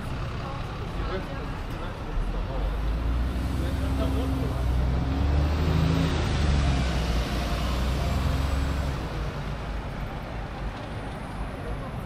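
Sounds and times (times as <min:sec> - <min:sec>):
bus engine rumble: 0:00.0 - 0:12.0
street traffic: 0:00.0 - 0:12.0.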